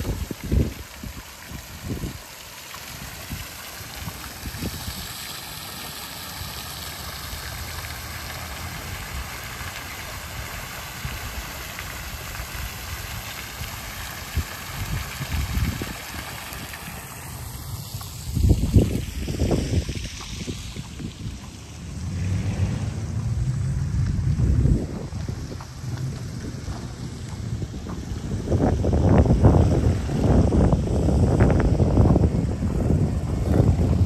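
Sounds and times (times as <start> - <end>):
wind buffeting on microphone: 0.0 - 2.4, 3.0 - 5.4, 8.8 - 34.0
water rushing: 0.0 - 34.0.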